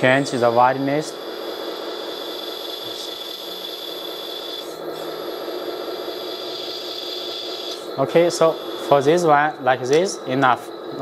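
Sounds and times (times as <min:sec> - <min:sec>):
hydraulic pump humming: 0:00.0 - 0:11.0.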